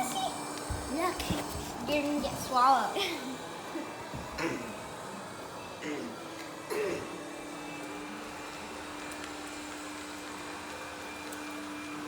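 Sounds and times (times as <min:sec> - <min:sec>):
robot vacuum humming: 0:00.0 - 0:12.0.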